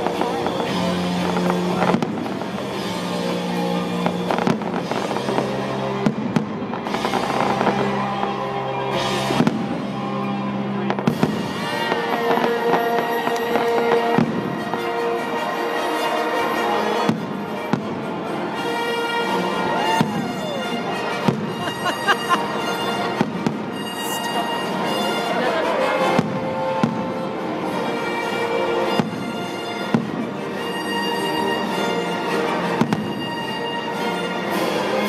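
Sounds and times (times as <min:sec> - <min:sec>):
fireworks bursting: 0:00.0 - 0:33.9
music with long held notes: 0:00.0 - 0:35.0.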